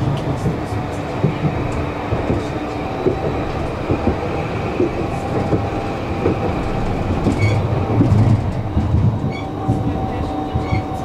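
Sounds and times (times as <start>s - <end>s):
tram wheels rumbling on rail: 0.0s - 11.0s.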